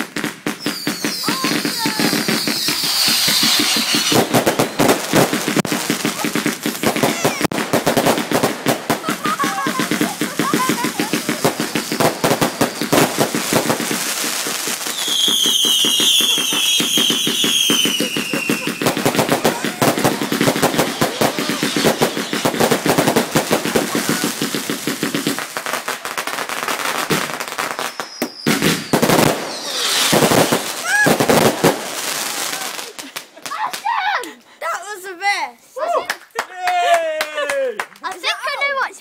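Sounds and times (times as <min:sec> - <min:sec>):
fireworks crackling and banging: 0:00.0 - 0:39.0
whistling firework: 0:00.1 - 0:33.1.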